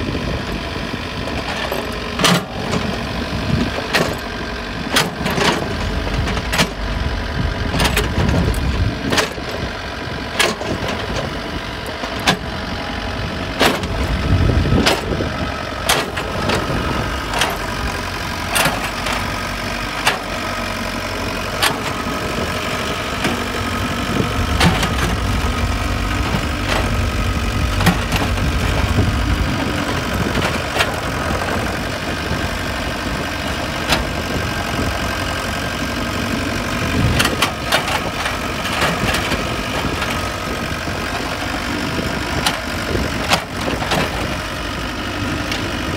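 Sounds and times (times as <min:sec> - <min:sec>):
diesel engine running: 0:00.0 - 0:45.9
bucket and tracks clanking: 0:01.3 - 0:45.9.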